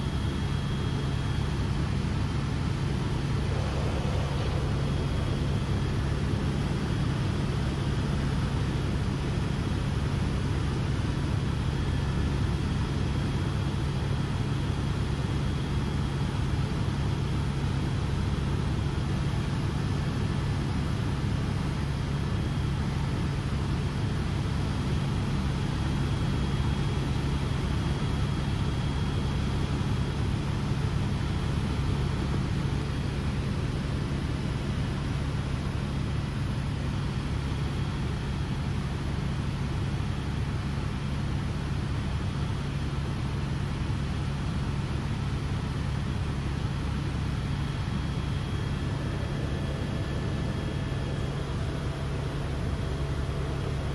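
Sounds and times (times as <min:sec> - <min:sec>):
faint high whine: 0:00.0 - 0:53.9
helicopter cabin drone: 0:00.0 - 0:53.9.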